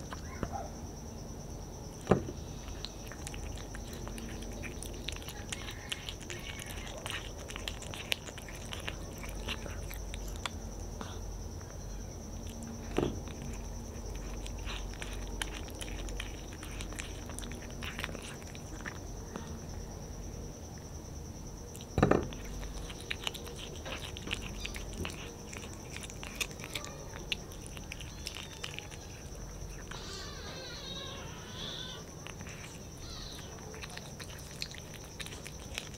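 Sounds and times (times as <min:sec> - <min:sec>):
cat chewing raw meat: 0:00.0 - 0:00.3, 0:01.9 - 0:11.4, 0:12.2 - 0:19.8, 0:21.6 - 0:35.9.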